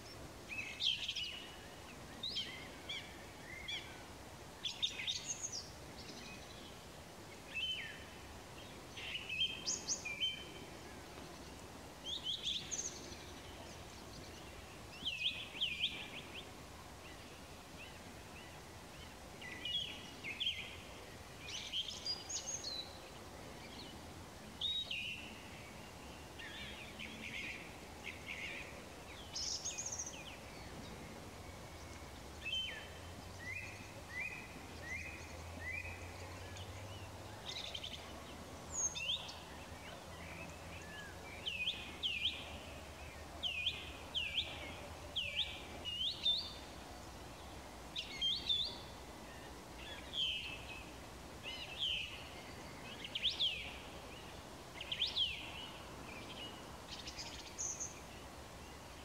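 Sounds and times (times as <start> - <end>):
faint background noise: 0.0 - 59.0
songbirds singing: 0.0 - 59.0.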